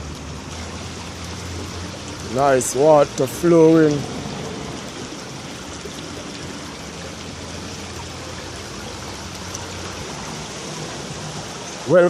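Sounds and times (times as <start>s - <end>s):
water flowing steadily: 0.0s - 12.0s.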